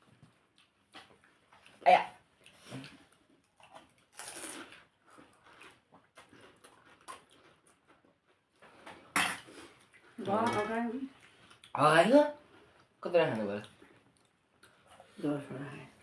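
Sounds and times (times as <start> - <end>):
crunching and wet chewing: 0.1 - 10.2, 12.4 - 15.2.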